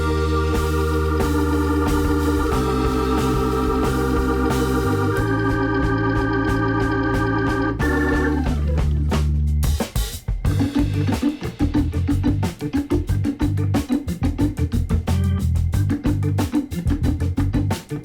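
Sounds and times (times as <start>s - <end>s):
organ instrumental music: 0.0s - 18.0s.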